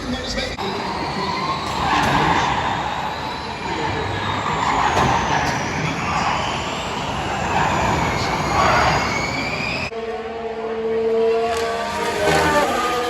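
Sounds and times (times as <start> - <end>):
racing vehicles whining past: 0.6 - 13.0.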